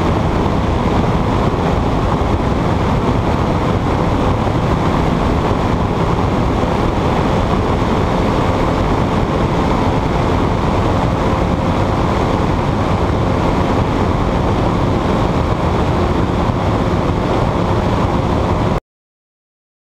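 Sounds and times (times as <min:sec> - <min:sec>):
engine and propeller drone: 0:00.0 - 0:18.8
wind rush on microphone: 0:00.0 - 0:18.8.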